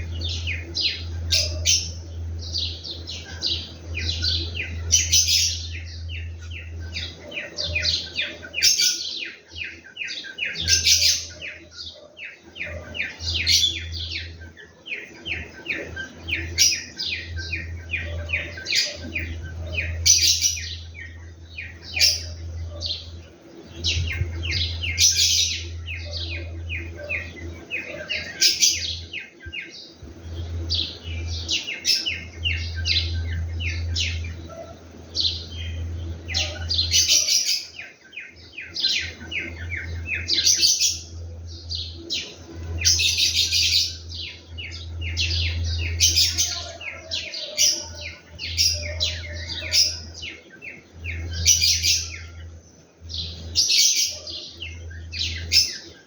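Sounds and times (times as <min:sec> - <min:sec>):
low steady hum: 0:00.0 - 0:56.0
small birds chirping: 0:00.0 - 0:56.0.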